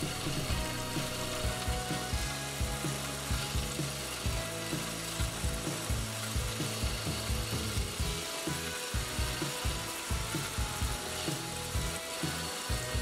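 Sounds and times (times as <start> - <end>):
spindle hum: 0.0 - 13.0.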